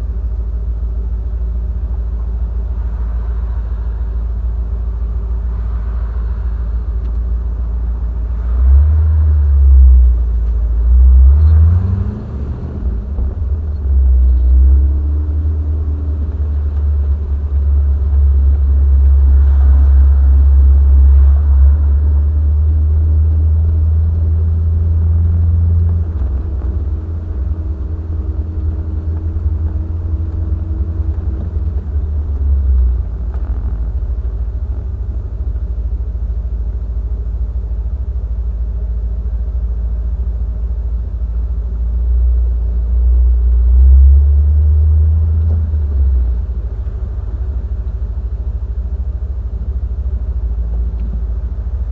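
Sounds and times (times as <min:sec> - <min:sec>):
engine deep rumble revving: 0:00.0 - 0:51.9.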